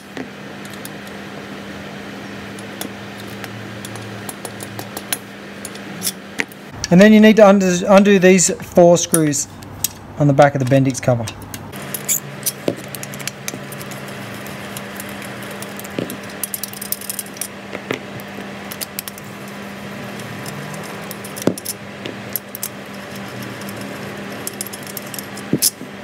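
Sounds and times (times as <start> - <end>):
low hum: 0.0 - 10.3, 11.3 - 26.0.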